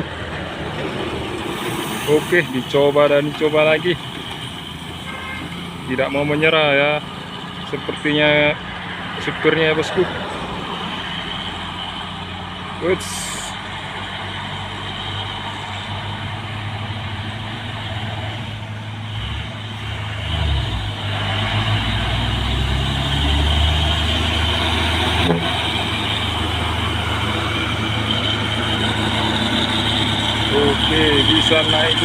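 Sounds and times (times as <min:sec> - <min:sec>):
diesel truck engine working hard: 0:00.0 - 0:32.0.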